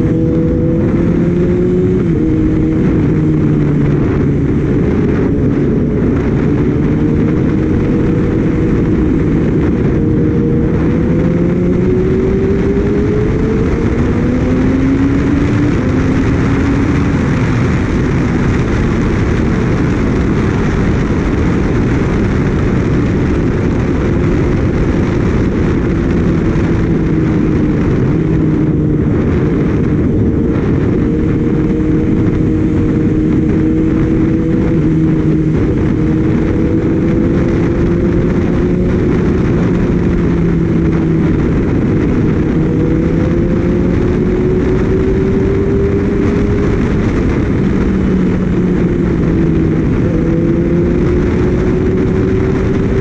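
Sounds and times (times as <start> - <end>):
motorcycle engine: 0.0 - 53.0
wind rushing over microphone: 0.0 - 53.0.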